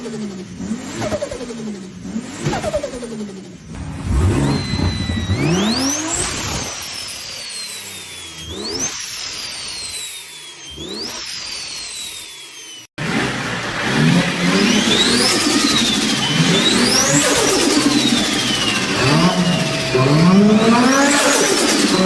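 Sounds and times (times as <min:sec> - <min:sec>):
turbocharged car engine revving: 0:00.0 - 0:22.0
turbo whistle and flutter: 0:02.4 - 0:12.9, 0:14.6 - 0:22.0.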